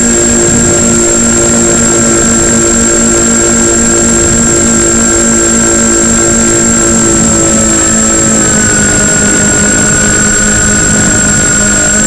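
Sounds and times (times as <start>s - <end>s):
model plane motors droning: 0.0s - 12.0s
thin high whine: 0.0s - 12.0s.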